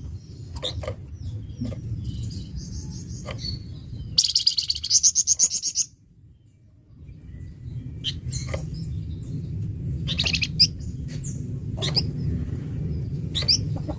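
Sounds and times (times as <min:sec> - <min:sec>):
songbird chirping and trilling: 0:00.0 - 0:13.9
steady low rumble: 0:00.0 - 0:13.9.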